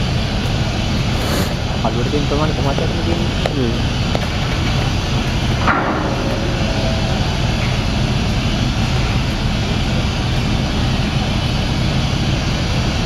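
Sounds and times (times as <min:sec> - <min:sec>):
ferry machinery droning: 0:00.0 - 0:13.0.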